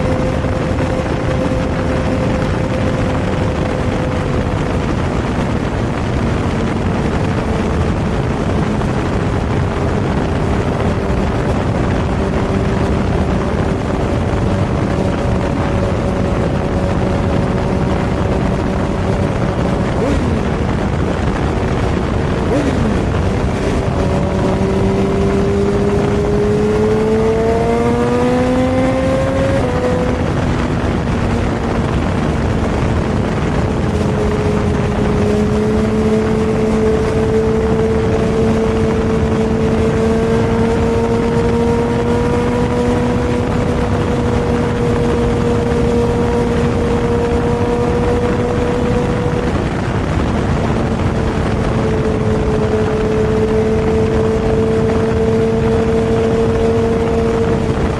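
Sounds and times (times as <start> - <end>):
motorcycle engine at speed: 0.0 - 57.9
road rush: 0.0 - 57.9
wind rush: 0.0 - 57.9.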